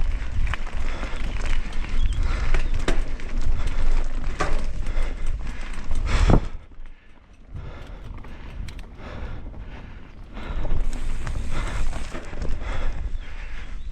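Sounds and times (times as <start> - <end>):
bike rattling over rocks: 0.0 - 13.0
wind rumbling on microphone: 0.0 - 13.9.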